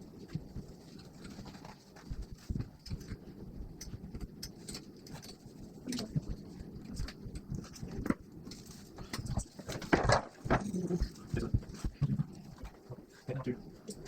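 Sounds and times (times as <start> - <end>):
parts and tools clicking and tapping: 0.2 - 12.8.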